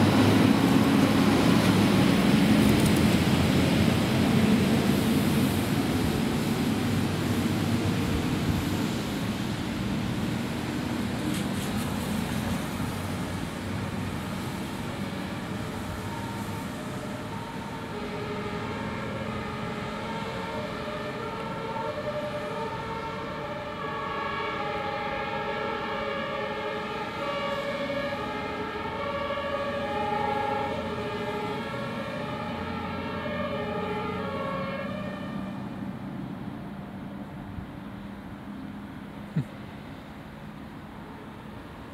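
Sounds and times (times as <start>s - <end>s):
two-tone sirens: 0.0s - 37.7s
fire truck engines passing: 0.0s - 41.9s.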